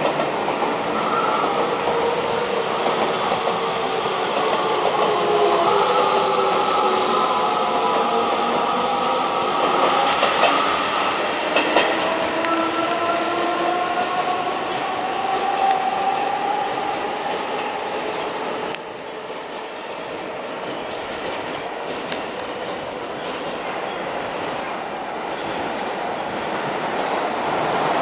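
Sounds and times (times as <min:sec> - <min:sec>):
train cars rumbling: 0:00.0 - 0:28.0
train wheels squealing: 0:00.7 - 0:26.3.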